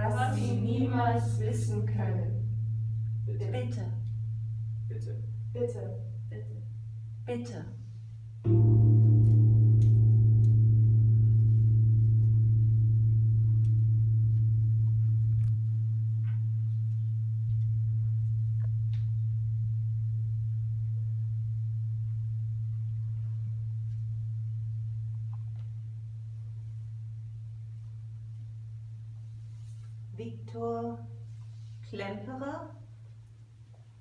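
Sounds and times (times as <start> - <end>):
deep ringing metal instrument: 0.0 - 7.2, 8.4 - 29.4.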